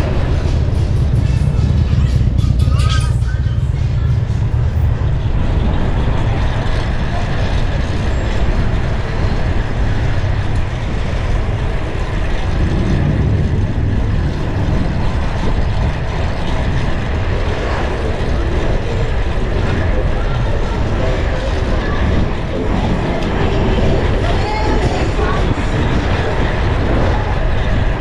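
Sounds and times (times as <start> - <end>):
bicycle road noise: 0.0 - 28.0
heavy choppy low rumble: 0.0 - 28.0
wind buffeting microphone: 0.0 - 28.0.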